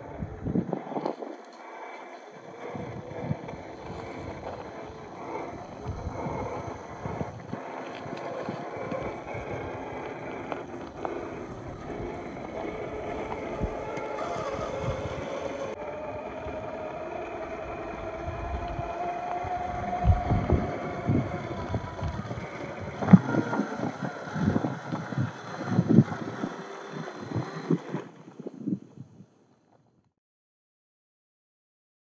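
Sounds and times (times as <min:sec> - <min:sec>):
rc car motor whine: 0:00.0 - 0:29.0.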